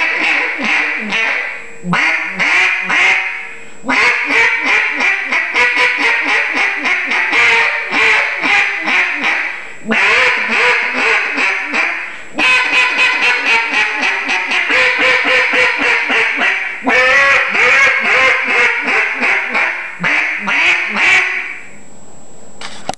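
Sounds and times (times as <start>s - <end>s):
duck call quacks: 0.0s - 21.7s.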